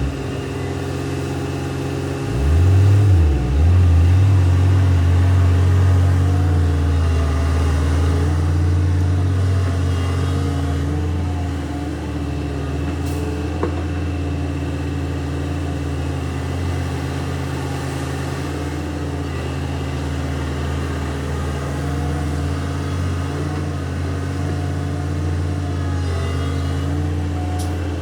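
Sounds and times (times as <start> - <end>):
diesel engine running steadily: 0.0 - 28.0.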